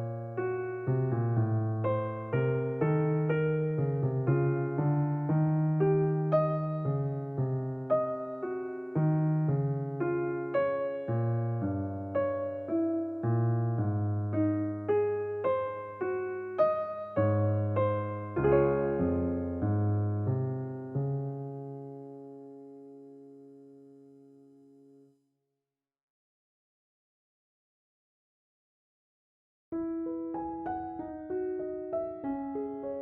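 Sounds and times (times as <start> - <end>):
gentle solo piano music: 0.0 - 24.9, 29.7 - 33.0.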